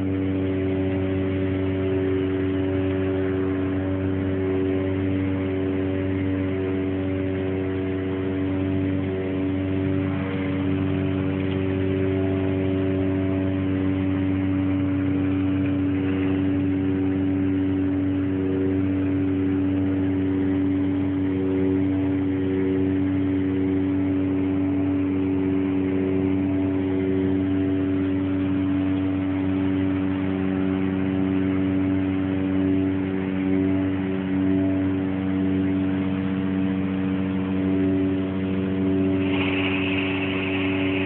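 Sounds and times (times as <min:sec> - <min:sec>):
loud droning hum: 0:00.0 - 0:41.0
low rumbling hiss: 0:00.0 - 0:41.0.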